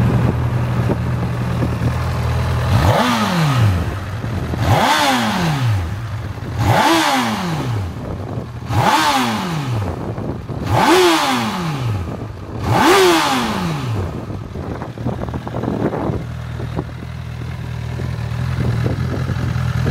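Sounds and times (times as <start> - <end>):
motorcycle engine idling: 0.0 - 9.0, 9.6 - 19.9.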